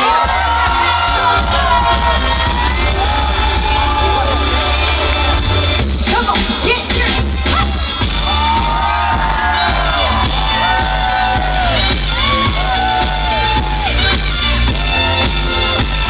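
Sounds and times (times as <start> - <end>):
pop backing track with bass beat: 0.0 - 16.0.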